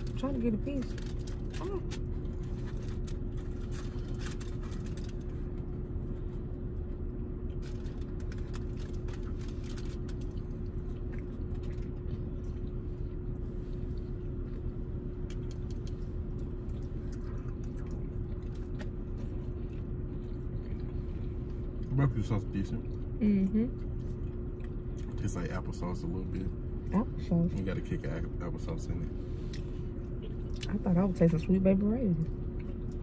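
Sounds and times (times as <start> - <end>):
low car cabin hum: 0.0 - 33.0
quiet chewing: 0.8 - 25.6, 29.1 - 30.9, 32.2 - 33.0.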